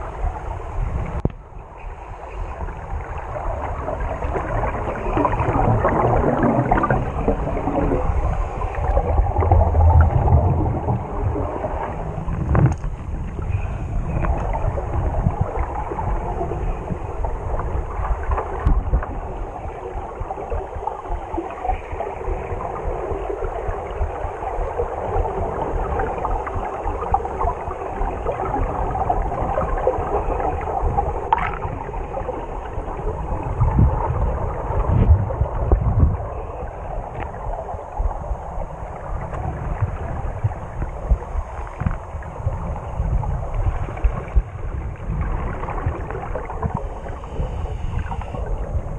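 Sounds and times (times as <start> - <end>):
muffled underwater gurgling: 0.0 - 48.9.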